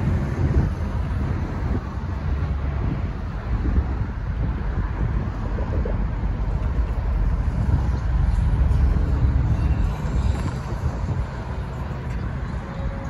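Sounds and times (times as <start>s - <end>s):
cars driving over rail crossing: 0.0s - 13.0s.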